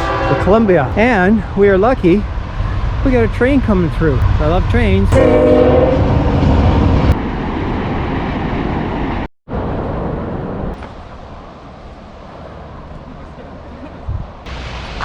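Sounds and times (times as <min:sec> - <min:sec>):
train passing on tracks: 0:00.0 - 0:15.0.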